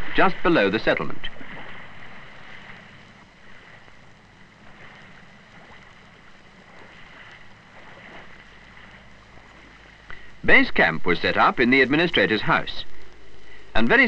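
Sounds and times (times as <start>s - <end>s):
faint steady hiss: 0.0s - 14.0s
low hum: 0.0s - 14.0s.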